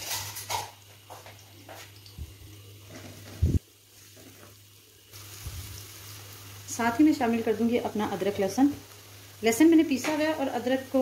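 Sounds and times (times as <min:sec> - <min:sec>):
onions sizzling faintly: 0:00.0 - 0:11.0.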